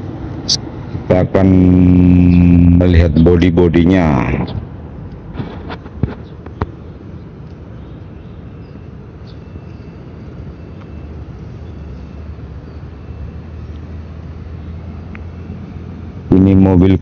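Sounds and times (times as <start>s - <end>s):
low engine hum: 0.0s - 17.0s
outdoor background noise: 0.0s - 17.0s.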